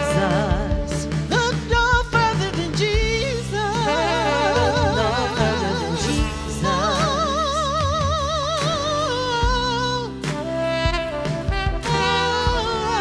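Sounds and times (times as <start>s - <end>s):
steady bass line: 0.0s - 13.0s.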